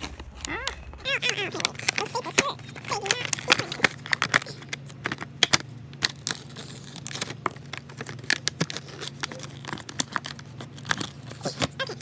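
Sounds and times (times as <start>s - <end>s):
packaging crinkling and crackling: 0.0s - 12.0s.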